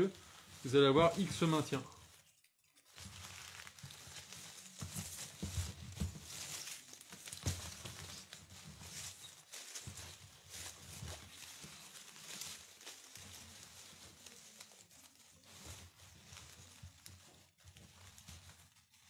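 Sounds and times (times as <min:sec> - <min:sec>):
ivy stems rustling: 0:00.0 - 0:19.0.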